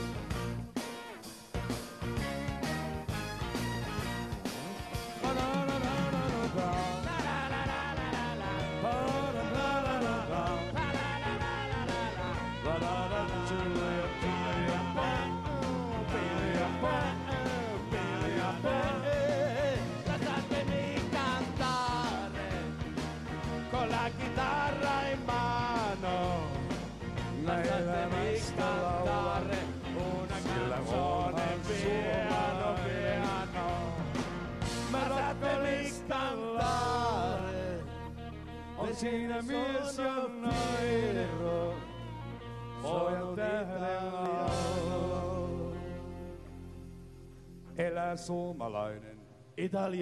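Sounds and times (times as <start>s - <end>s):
live rock and roll band: 0.0s - 48.9s.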